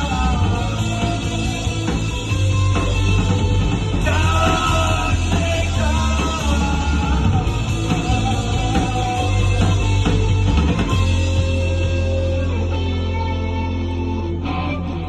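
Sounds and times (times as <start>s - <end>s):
heavy bass: 0.0s - 15.0s
rock band playing live: 0.0s - 15.0s.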